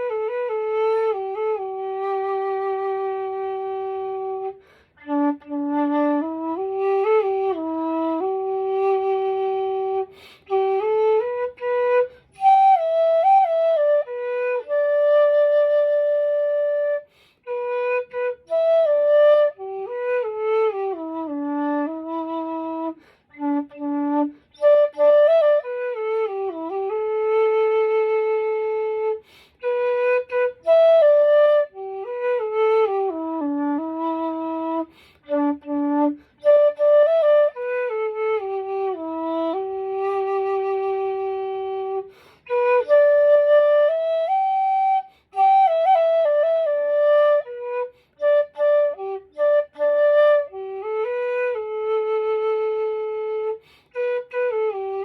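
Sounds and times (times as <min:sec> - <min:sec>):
end-blown bamboo flute melody: 0:00.0 - 0:55.0.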